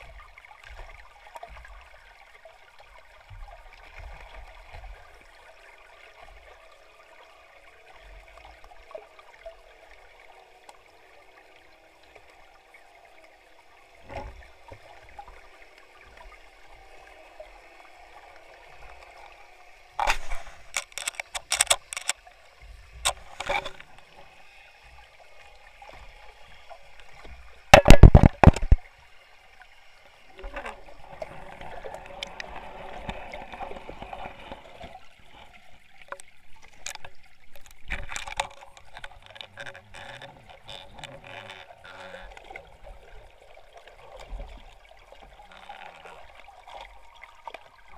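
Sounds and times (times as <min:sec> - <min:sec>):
murky underwater noise: 0:00.0 - 0:47.9.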